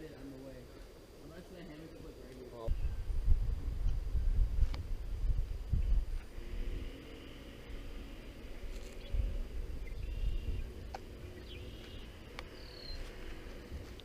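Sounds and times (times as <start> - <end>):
wind rumble on microphone: 2.7 - 14.0.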